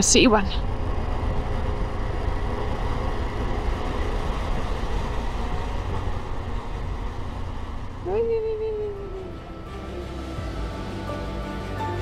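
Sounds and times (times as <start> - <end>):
faint engine hum: 0.0 - 12.0
road and wind noise: 0.0 - 12.0.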